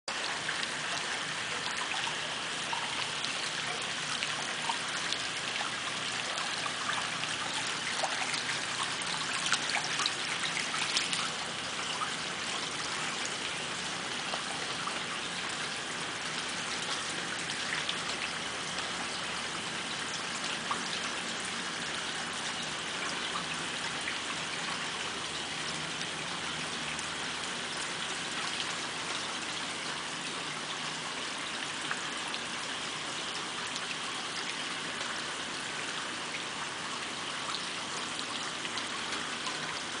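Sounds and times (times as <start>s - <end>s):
water trickling: 0.1s - 40.0s.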